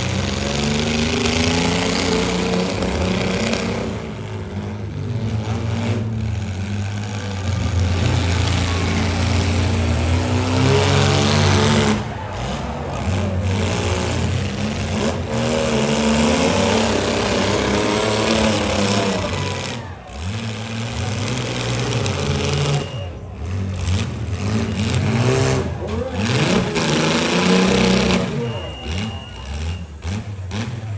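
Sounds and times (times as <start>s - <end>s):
car engines revving: 0.0s - 30.9s.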